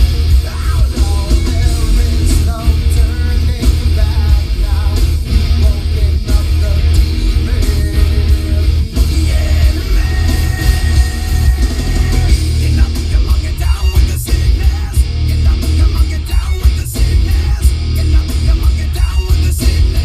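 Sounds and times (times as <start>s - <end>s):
deep subwoofer bass: 0.0s - 20.0s
rock song through car stereo: 0.0s - 20.0s.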